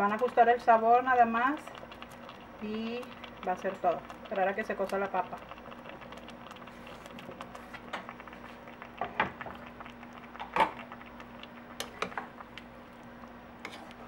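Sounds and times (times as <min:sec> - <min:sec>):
low steady hum: 0:00.0 - 0:14.0
wooden spoon stirring pot: 0:00.0 - 0:14.0.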